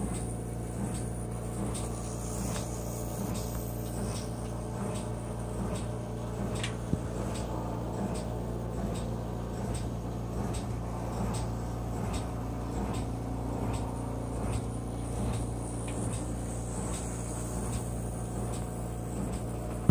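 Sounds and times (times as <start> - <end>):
model train motor humming: 0.0 - 19.9.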